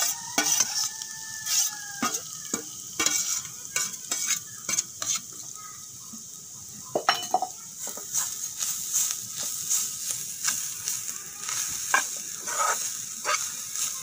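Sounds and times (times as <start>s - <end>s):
steel spoon scraping pan: 0.0s - 5.3s, 7.2s - 14.0s
coconut sizzling in oil: 0.0s - 14.0s.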